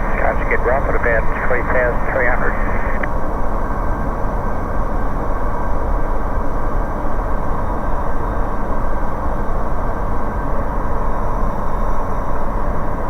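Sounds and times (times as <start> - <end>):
light aircraft engine and propeller drone: 0.0 - 13.0.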